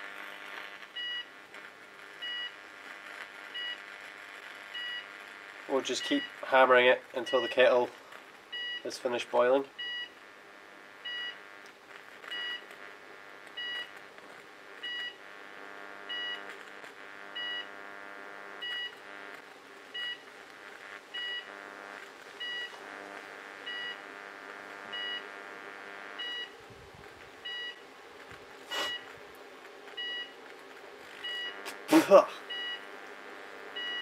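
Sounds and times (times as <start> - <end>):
electrical transformer hum: 0.0 - 34.0.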